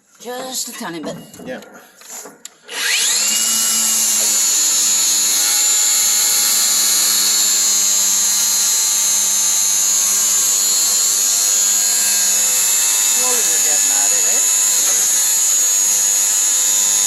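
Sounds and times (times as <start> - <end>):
angle grinder grinding metal: 2.7 - 17.0.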